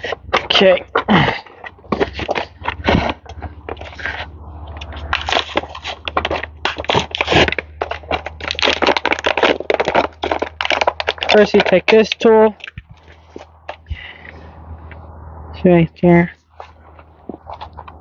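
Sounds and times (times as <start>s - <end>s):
crackling and crunching handling noise: 0.0s - 15.0s, 16.0s - 18.0s.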